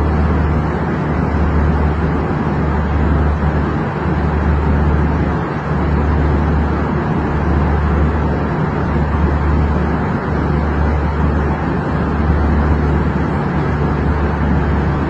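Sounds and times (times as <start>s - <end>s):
airliner engines and airflow roar: 0.0s - 15.0s
low hum: 0.0s - 15.0s.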